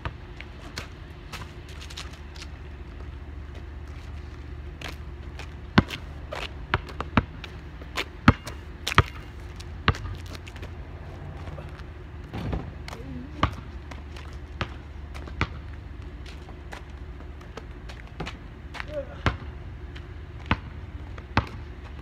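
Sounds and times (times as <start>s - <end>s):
basketball bouncing on asphalt: 0.0s - 22.0s
steady low rumble: 0.0s - 22.0s.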